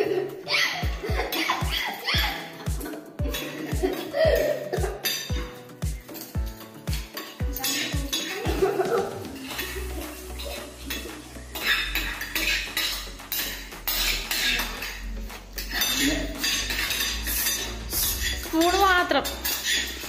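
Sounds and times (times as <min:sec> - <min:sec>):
spoons clinking on glass plates: 0:01.2 - 0:20.0.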